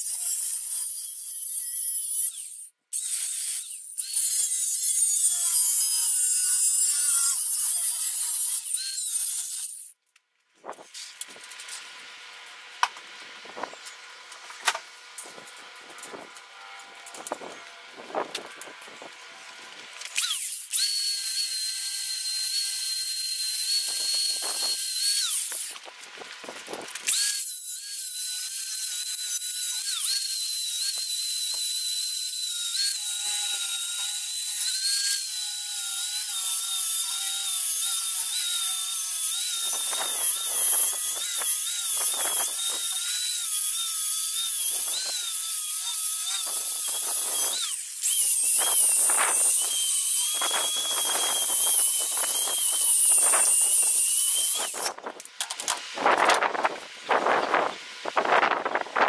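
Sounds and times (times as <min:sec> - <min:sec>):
angle grinder grinding metal: 0:00.0 - 0:10.0, 0:13.3 - 0:58.8.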